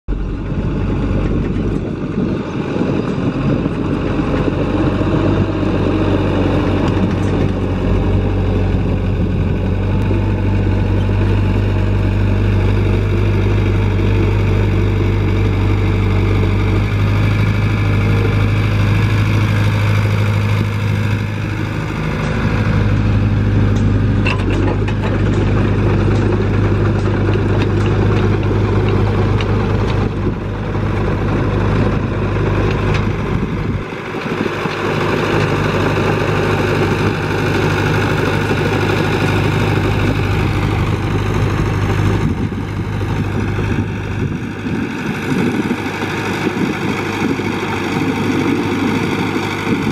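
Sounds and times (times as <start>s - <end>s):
excavator diesel engine running: 0.1s - 49.9s.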